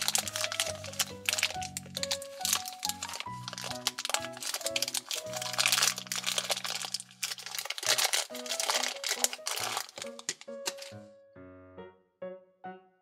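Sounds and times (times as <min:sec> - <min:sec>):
plastic bag crinkling: 0:00.0 - 0:11.0
light background music: 0:00.0 - 0:13.0.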